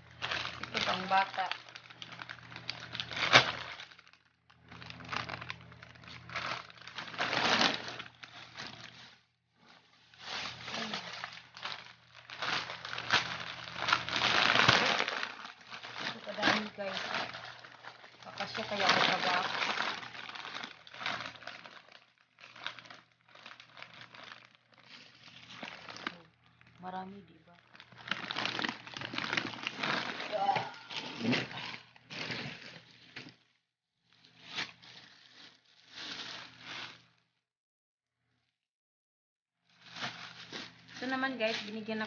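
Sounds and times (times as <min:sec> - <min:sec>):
plastic wrappers crinkling: 0:00.0 - 0:33.5, 0:34.1 - 0:37.2, 0:39.7 - 0:42.0
sharp plastic crackle: 0:00.0 - 0:37.2, 0:39.7 - 0:42.0.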